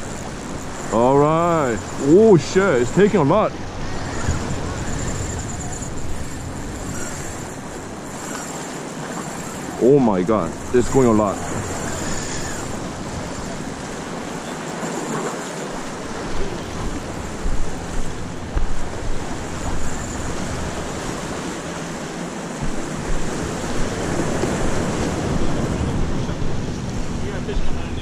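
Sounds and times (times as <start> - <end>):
wind buffeting microphone: 0.0 - 14.6, 15.2 - 28.0
surf against rocks: 0.0 - 28.0.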